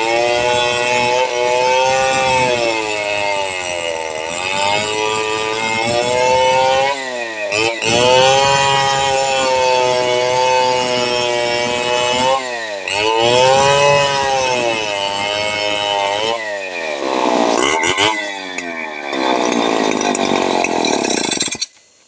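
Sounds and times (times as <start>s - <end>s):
chainsaw cutting log: 0.0s - 22.0s.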